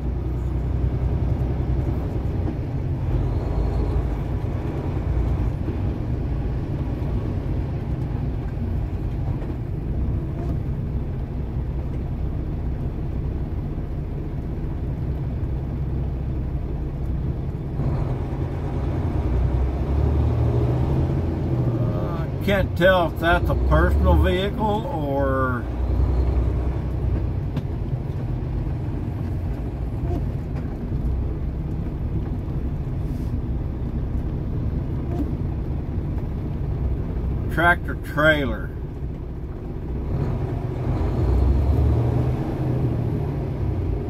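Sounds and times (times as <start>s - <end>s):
truck diesel engine rumbling: 0.0s - 44.0s.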